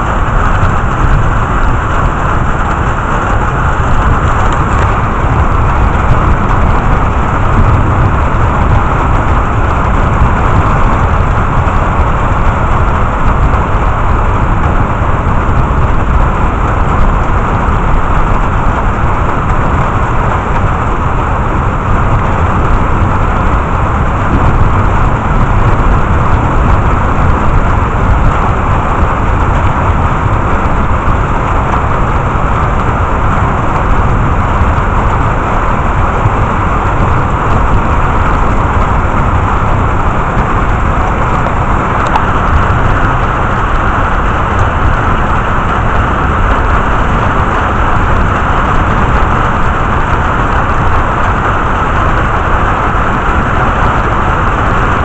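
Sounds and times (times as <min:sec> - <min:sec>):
deep rumble: 0:00.0 - 0:55.0
heavy rain hiss: 0:00.0 - 0:55.0.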